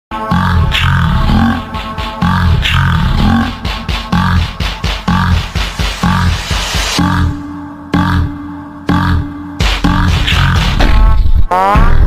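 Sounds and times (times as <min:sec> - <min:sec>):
electronic music with heavy bass: 0:00.1 - 0:12.0.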